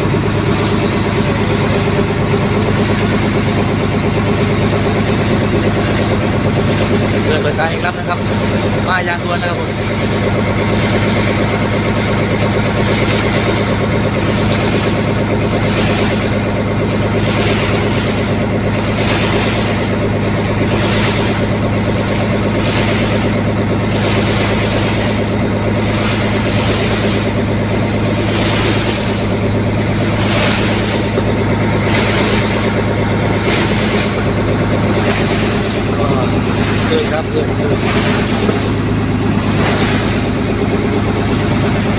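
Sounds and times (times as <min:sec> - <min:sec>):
boat engine droning: 0:00.0 - 0:41.9.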